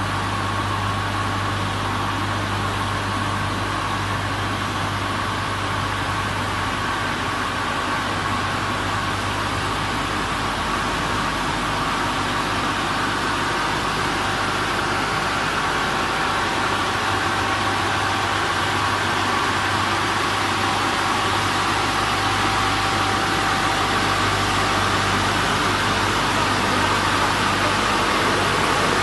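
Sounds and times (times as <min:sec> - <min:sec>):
car wash machine running: 0:00.0 - 0:29.0.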